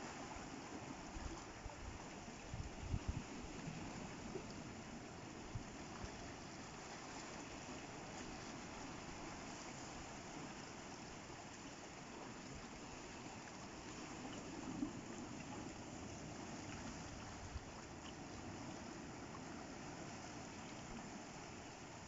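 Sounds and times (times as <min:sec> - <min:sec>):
seawater trickling through rock pools: 0:00.0 - 0:22.0.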